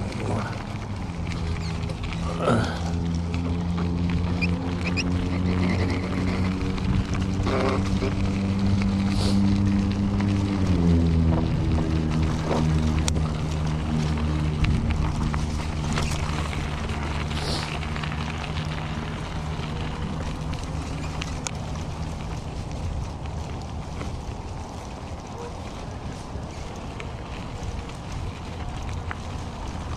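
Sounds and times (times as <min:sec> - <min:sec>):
bike clicks and rattles: 0:00.0 - 0:29.9
electric bike motor humming: 0:00.0 - 0:29.9.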